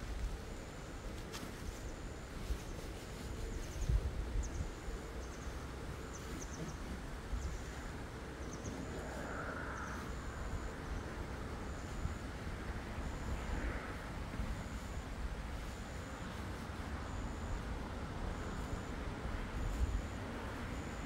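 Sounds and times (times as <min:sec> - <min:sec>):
steady rushing hiss: 0:00.0 - 0:21.0.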